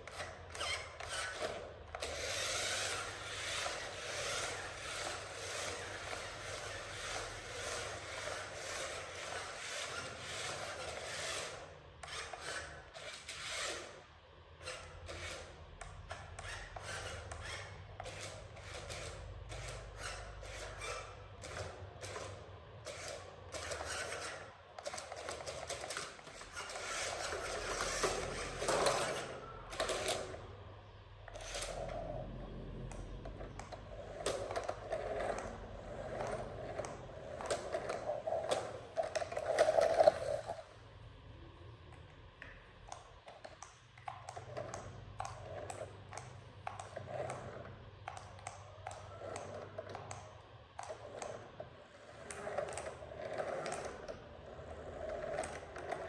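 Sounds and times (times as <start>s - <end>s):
toy vehicles rattling and clattering: 0.0s - 14.0s, 14.8s - 30.4s, 32.8s - 40.7s, 48.1s - 56.0s.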